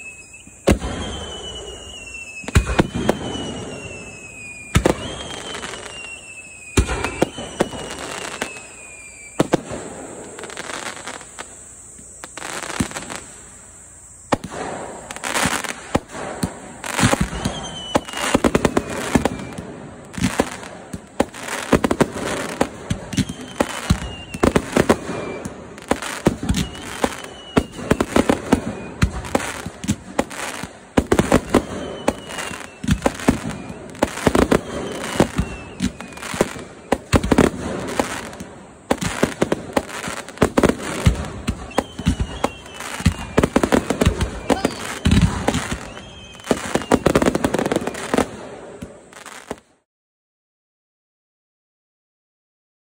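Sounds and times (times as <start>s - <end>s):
high falling whistle: 0.0s - 49.5s
fireworks bangs and crackling: 0.0s - 49.8s.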